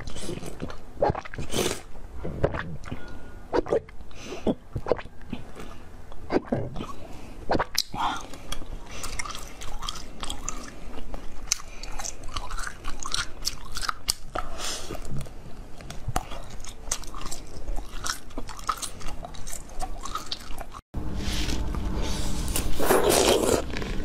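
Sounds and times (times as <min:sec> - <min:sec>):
chewing crunchy frozen jelly: 0:00.0 - 0:20.8, 0:21.4 - 0:24.0.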